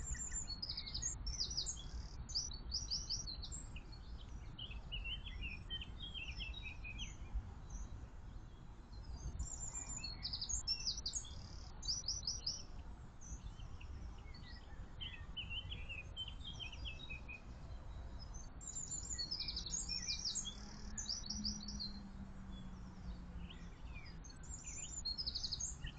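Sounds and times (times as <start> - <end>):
songbirds singing and chirping: 0.0 - 25.9.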